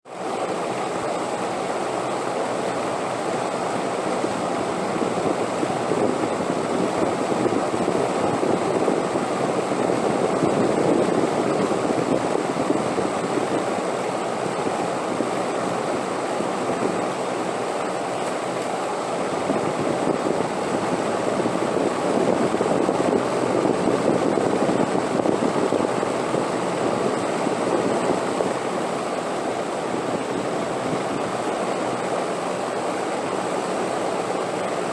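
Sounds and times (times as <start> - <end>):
wind blowing: 4.2 - 33.9.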